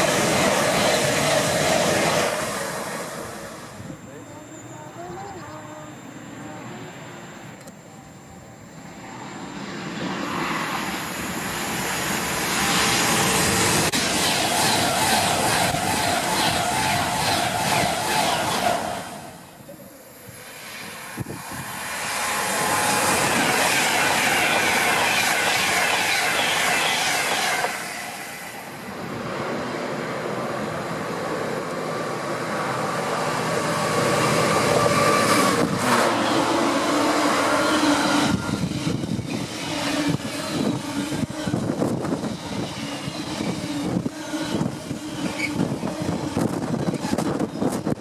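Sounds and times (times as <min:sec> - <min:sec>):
freight train wheels on rails: 0:00.0 - 0:07.9, 0:08.6 - 0:48.0
electric trains rushing past: 0:00.0 - 0:48.0.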